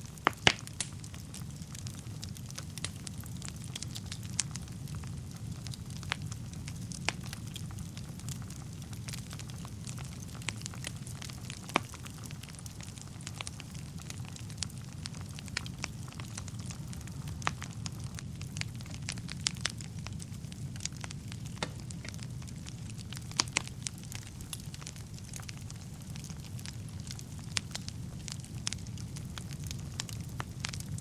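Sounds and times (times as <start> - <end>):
fire rumbling in fireplace: 0.0 - 31.0
logs crackling and popping: 0.0 - 31.0.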